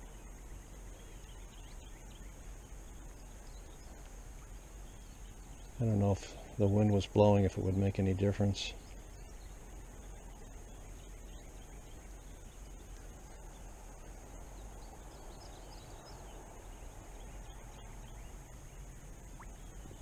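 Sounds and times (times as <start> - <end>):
constant high whine: 0.0 - 20.0
faint high chirps: 0.0 - 20.0
faint steady hiss: 0.0 - 20.0.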